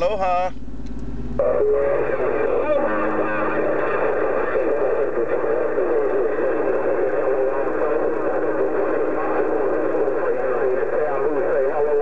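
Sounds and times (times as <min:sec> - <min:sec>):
radio static hiss: 0:01.4 - 0:12.0.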